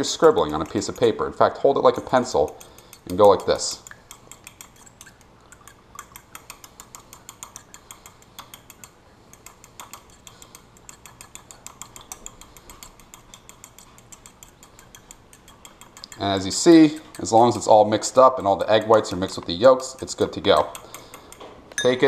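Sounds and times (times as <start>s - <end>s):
fork whisking eggs in a bowl: 0.0s - 22.0s.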